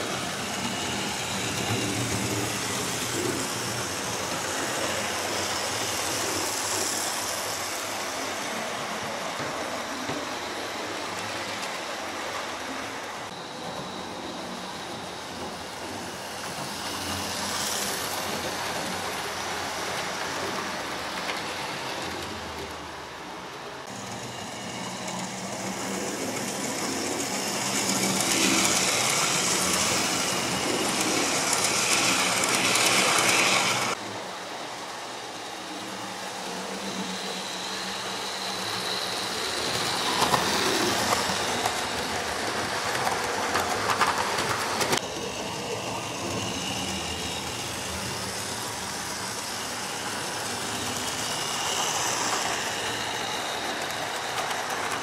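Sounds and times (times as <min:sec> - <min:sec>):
model trains whirring on rails: 0:00.0 - 0:55.0.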